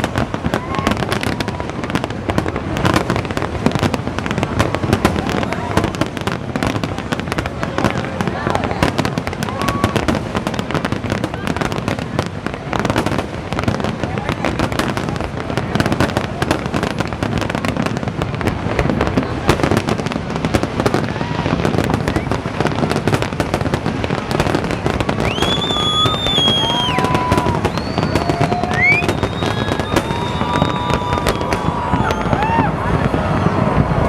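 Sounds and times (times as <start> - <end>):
fireworks crackling: 0.0 - 34.0
fireworks whistling: 0.0 - 34.0.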